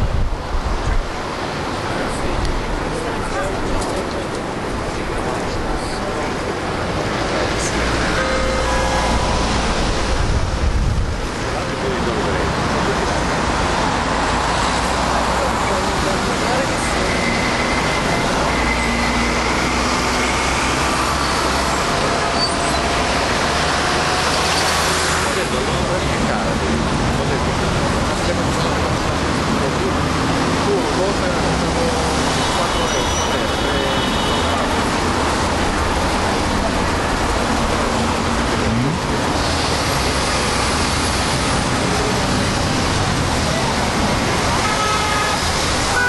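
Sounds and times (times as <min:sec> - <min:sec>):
passing cars and buses: 0:00.0 - 0:46.0
road traffic rumble: 0:00.0 - 0:46.0.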